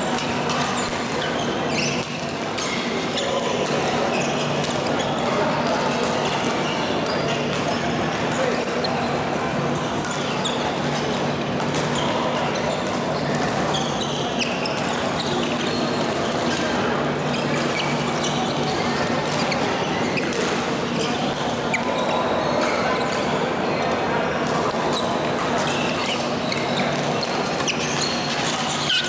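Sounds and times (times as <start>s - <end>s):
background chatter: 0.0s - 29.0s.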